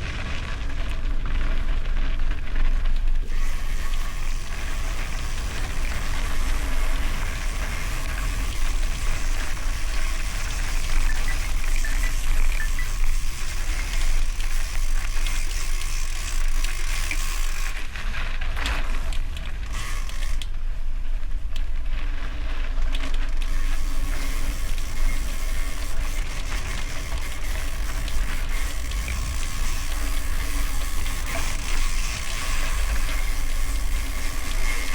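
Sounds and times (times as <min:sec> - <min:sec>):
bike rattling and creaking: 0:00.0 - 0:34.9
wind rumble on microphone: 0:00.0 - 0:34.9.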